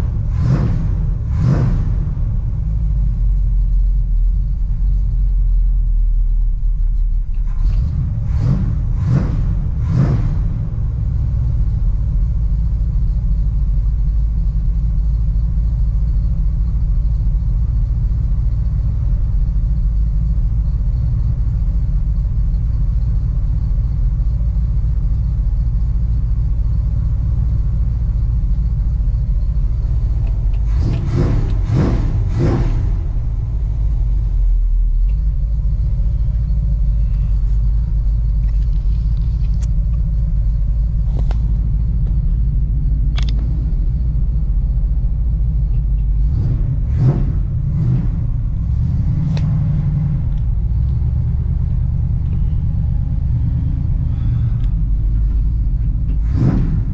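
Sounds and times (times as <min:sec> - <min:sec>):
truck engine idling: 0:00.0 - 0:56.9.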